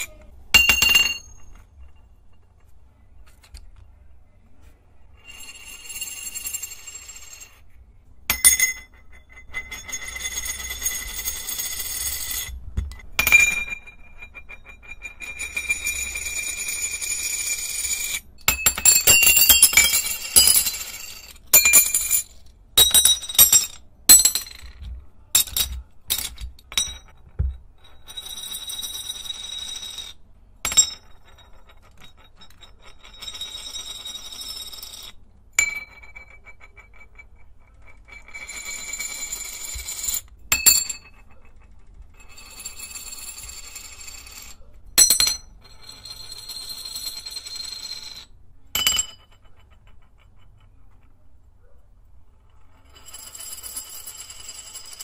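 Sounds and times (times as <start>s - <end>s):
metal discs clinking and rattling: 0.0s - 2.7s, 5.2s - 7.6s, 8.3s - 51.2s.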